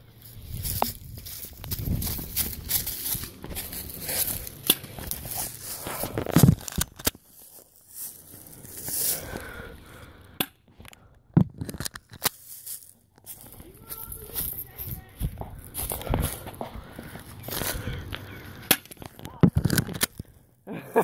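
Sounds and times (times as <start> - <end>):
rustling and crinkling handling: 0.0 - 10.1, 10.7 - 20.4.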